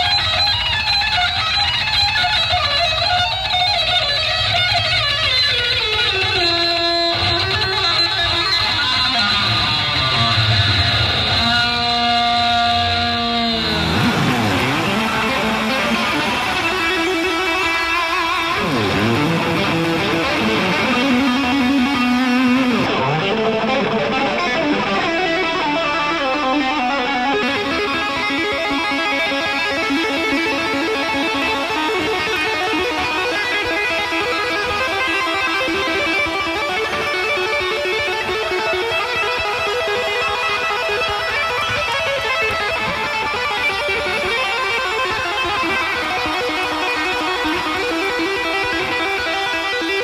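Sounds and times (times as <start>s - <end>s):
electric guitar solo: 0.0s - 50.0s.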